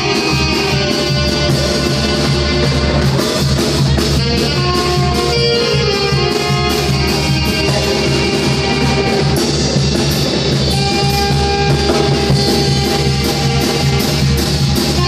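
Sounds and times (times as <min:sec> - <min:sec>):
drum kit: 0:00.0 - 0:15.0
saxophones playing melody: 0:00.0 - 0:15.0.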